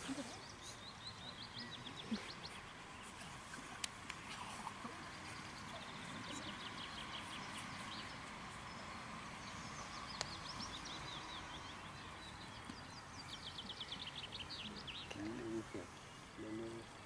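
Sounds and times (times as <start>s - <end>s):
outdoor background hiss: 0.0s - 17.0s
songbirds trilling: 0.1s - 17.0s.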